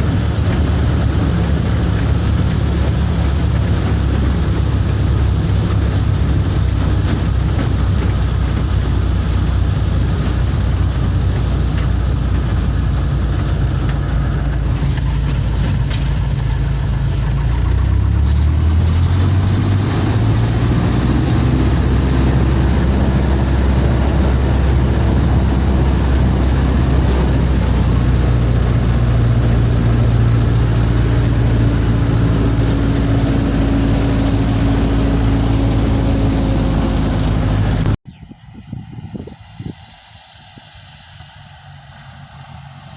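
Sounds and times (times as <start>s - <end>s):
light aircraft piston engine: 0.0s - 42.9s.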